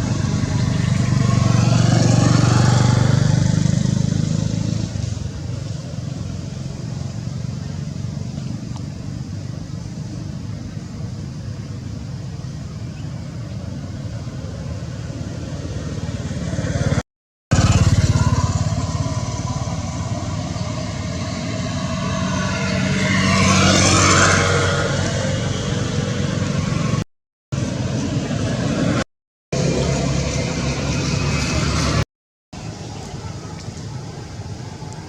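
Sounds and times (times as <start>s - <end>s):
motorcycle passing: 0.0s - 27.0s, 27.6s - 32.0s
vehicle engines running: 0.0s - 35.0s.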